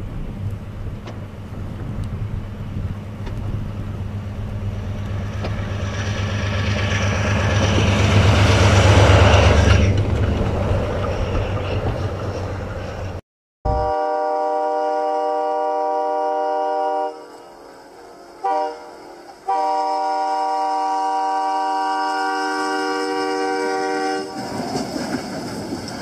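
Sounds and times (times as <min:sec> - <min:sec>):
locomotive engine hum: 0:00.0 - 0:26.0.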